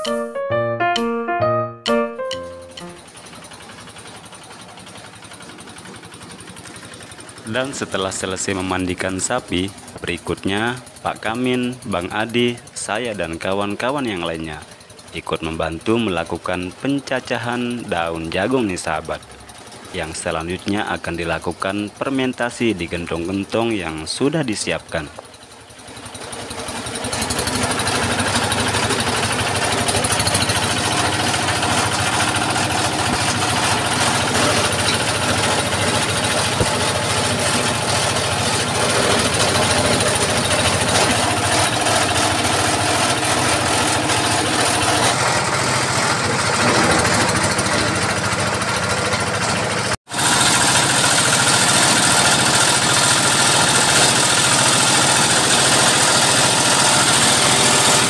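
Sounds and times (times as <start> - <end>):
engine-driven chopper shredding leaves: 3.0 - 58.0.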